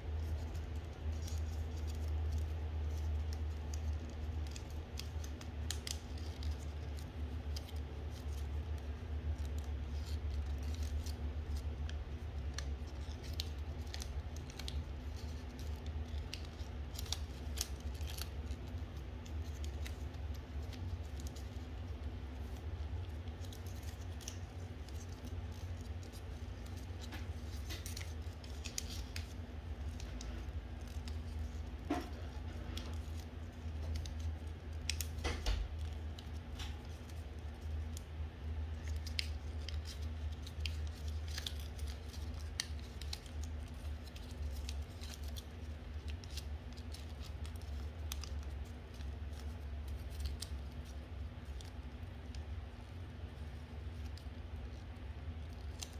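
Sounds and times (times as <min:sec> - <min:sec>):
paper crackles: 0:00.0 - 0:55.9
paper crinkling and rustling: 0:00.0 - 0:55.9.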